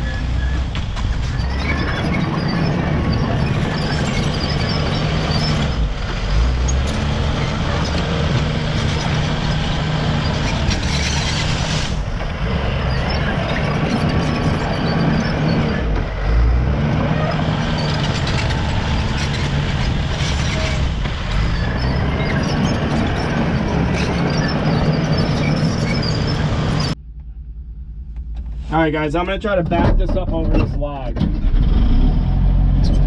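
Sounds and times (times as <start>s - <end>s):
bulldozer diesel engine running: 0.0s - 30.2s.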